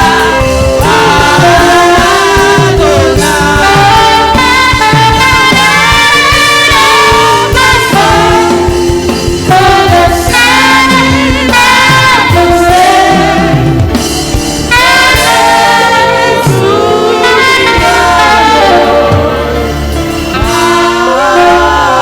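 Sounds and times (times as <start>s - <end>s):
backing band with bass line: 0.0s - 22.0s
saxophone melody: 0.0s - 22.0s.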